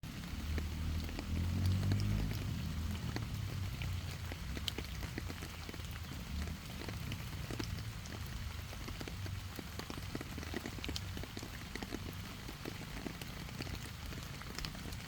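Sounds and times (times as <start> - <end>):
light ticks and crackles: 0.3 - 15.0.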